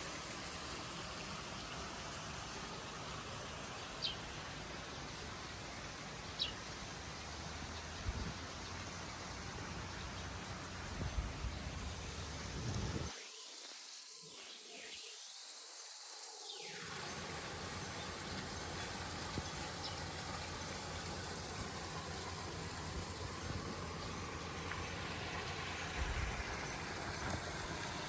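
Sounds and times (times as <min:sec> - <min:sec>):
hiss-like outdoor noise: 0:00.0 - 0:28.0.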